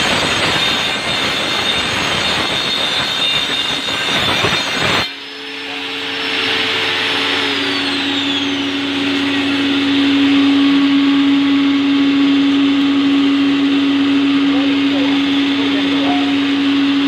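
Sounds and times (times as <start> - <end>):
forge blower motor hum: 0.0 - 17.0.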